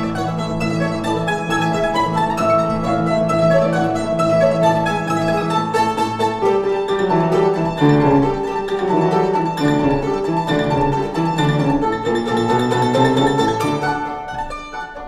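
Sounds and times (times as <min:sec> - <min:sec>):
piano accompaniment: 0:00.0 - 0:15.0
violins playing classical music: 0:00.0 - 0:15.0.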